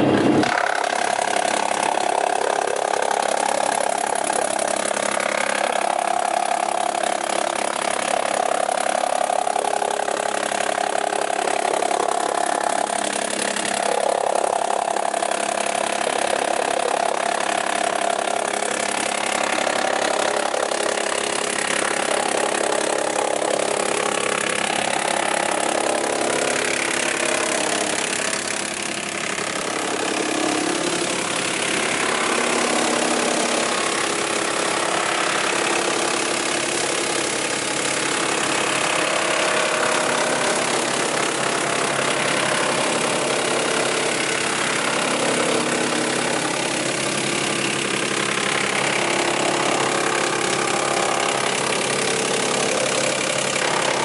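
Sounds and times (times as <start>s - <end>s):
wood chipper chipping log: 0.0s - 54.0s.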